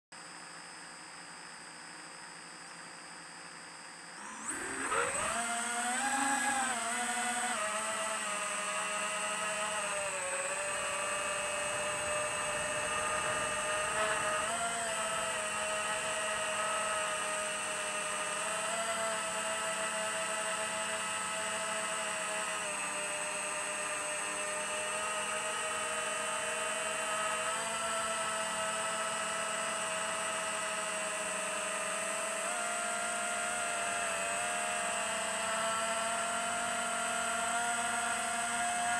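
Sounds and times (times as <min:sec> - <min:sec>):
quadcopter motors whining: 0:00.2 - 0:38.9.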